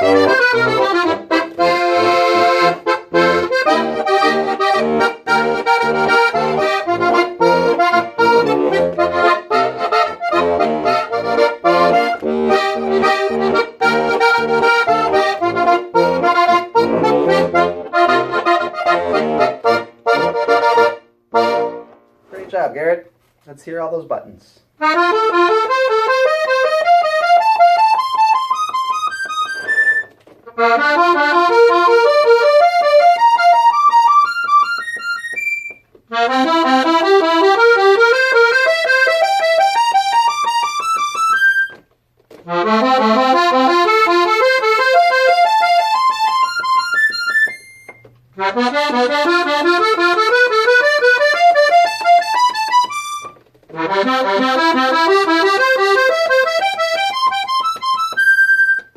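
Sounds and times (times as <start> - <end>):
accordion single reed notes: 0.0 - 23.0, 24.7 - 58.9.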